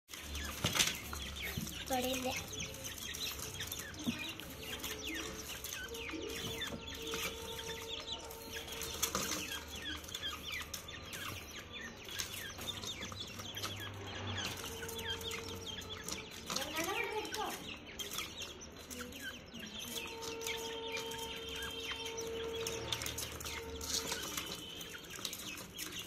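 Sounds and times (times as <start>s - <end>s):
francolins chirping: 0.1s - 26.0s.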